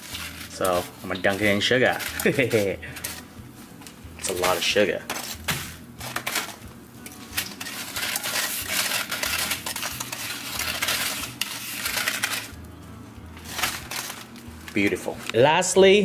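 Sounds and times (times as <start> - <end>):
sugar scraping on metal tray: 0.0 - 3.3, 4.2 - 12.6, 13.4 - 15.2.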